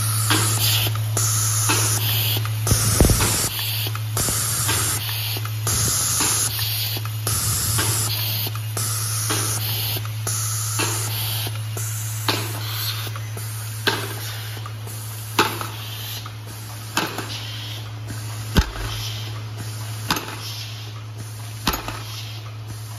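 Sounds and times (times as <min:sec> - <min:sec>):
sharp click with air hiss: 0:00.1 - 0:22.9.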